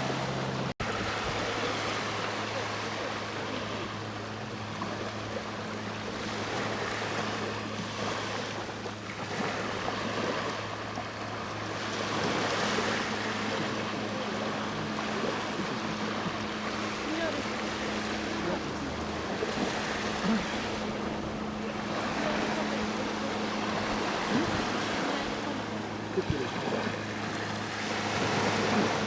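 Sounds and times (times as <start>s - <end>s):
boat engine humming: 0.0s - 29.0s
sea waves washing on shore: 0.0s - 29.0s.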